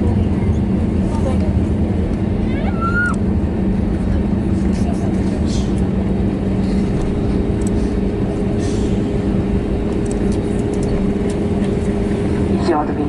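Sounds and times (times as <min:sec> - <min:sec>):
aircraft cabin engine hum: 0:00.0 - 0:13.0
low rumble: 0:00.0 - 0:13.0.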